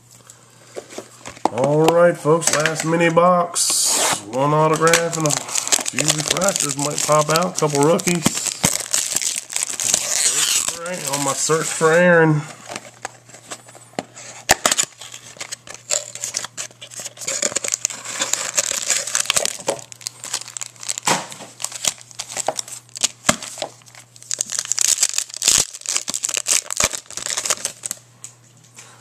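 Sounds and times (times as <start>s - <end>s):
plastic wrapping crinkling: 4.2s - 28.0s.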